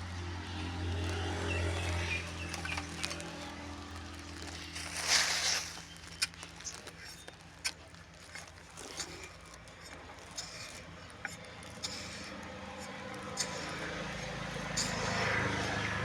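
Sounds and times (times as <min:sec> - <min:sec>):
scraping rush: 0:00.1 - 0:16.0.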